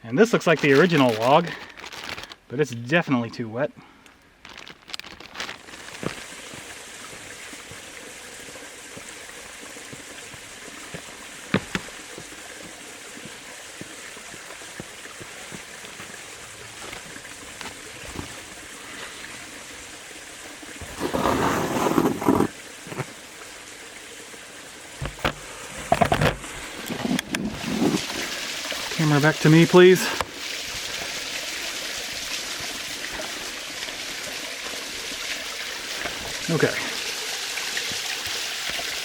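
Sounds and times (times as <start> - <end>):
creek water trickling over rock: 0.2 - 3.0, 4.0 - 39.0.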